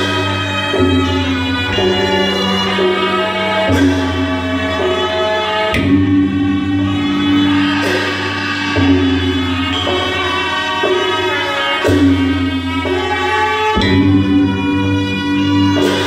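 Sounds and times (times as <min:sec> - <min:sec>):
drum and gong strokes: 0:00.0 - 0:16.0
reedy wind instrument melody: 0:00.0 - 0:16.0.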